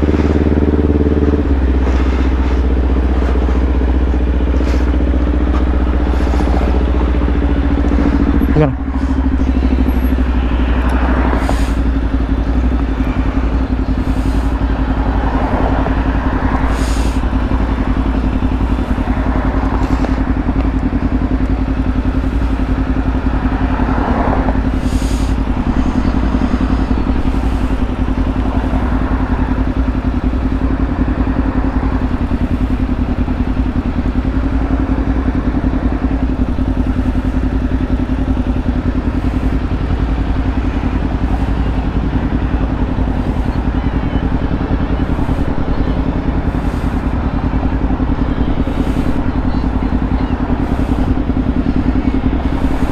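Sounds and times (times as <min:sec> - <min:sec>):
motorcycle engine running steadily: 0:00.0 - 0:52.9.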